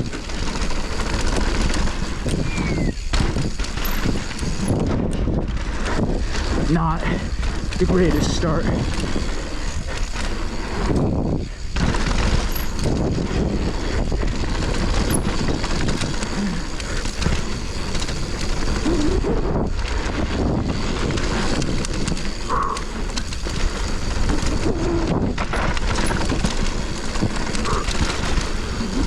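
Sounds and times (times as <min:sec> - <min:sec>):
bike tyres on dirt: 0:00.0 - 0:29.0
wind rushing over microphone: 0:00.0 - 0:29.0.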